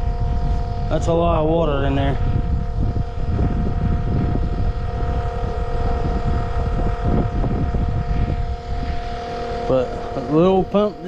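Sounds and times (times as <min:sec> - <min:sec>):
uneven low rumble: 0:00.0 - 0:11.0
water pump motor whine: 0:00.0 - 0:11.0.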